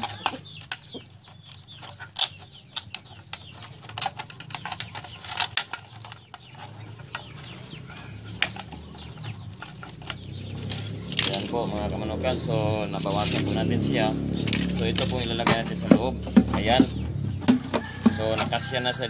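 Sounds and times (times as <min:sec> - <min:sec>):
chickens clucking faintly: 0:00.0 - 0:19.0.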